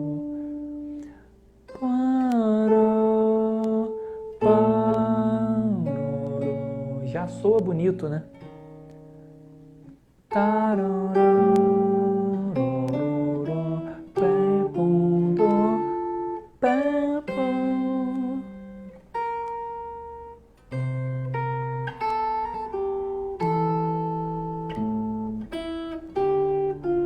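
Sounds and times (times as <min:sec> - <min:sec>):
plucked guitar melody: 0:00.0 - 0:27.0.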